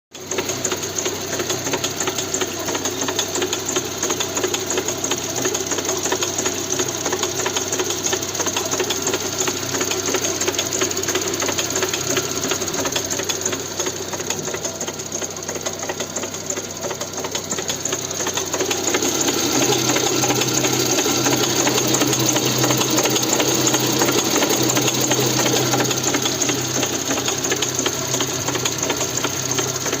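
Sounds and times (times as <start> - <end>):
engine knocking clatter: 0.1 - 30.0.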